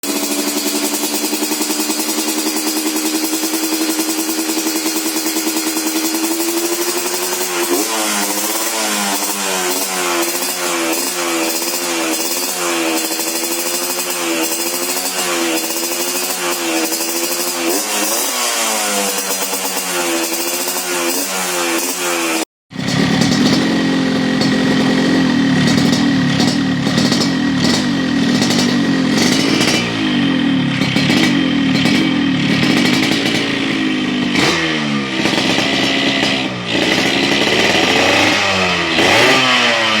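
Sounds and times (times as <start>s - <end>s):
two-stroke engine idling: 0.0s - 40.0s
two-stroke engine revving: 0.0s - 40.0s.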